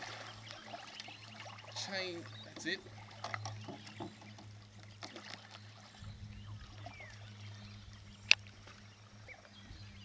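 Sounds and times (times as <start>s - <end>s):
paddles in water: 0.0s - 10.0s
steady low hum: 0.0s - 10.0s.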